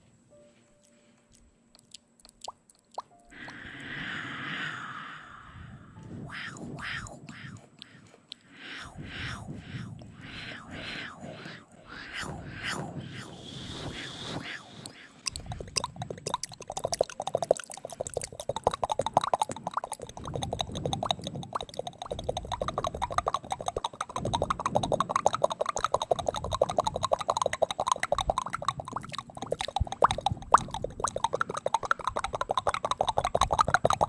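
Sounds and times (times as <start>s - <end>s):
wet mouth clicking and smacking: 0.8s - 5.5s, 6.3s - 34.0s.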